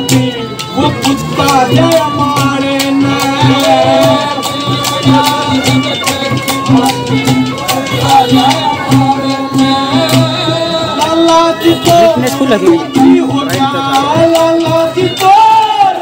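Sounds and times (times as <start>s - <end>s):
man singing folk song: 0.0s - 16.0s
quick percussion beat: 0.0s - 16.0s.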